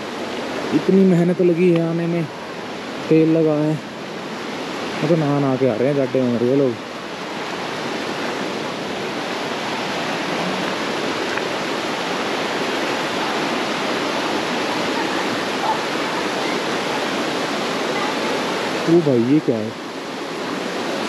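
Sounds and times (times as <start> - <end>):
rocky mountain stream rushing: 0.0 - 21.0.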